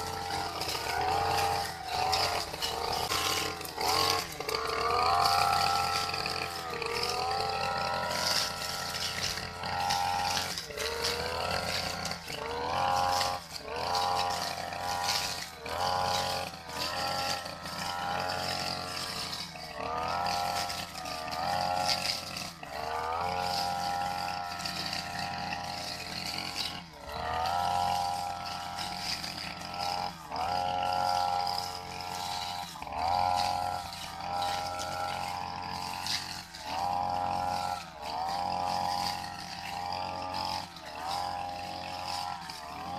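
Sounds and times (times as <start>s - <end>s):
brush cutter engine revving: 0.0s - 42.9s.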